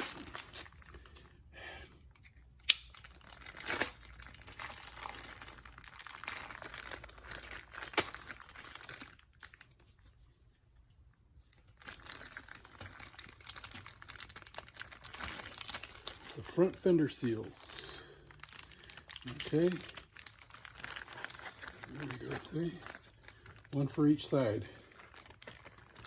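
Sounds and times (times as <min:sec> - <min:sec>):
packaging crinkling and tearing: 0:00.0 - 0:01.4, 0:02.0 - 0:09.8, 0:11.6 - 0:26.0.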